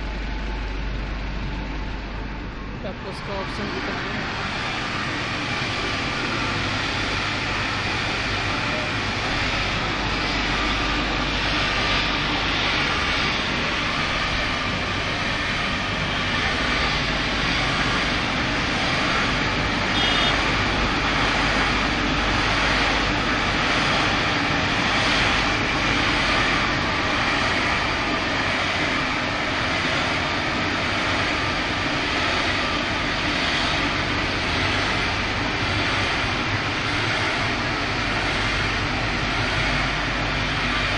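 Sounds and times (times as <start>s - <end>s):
car wash machine rushing: 2.8s - 40.9s.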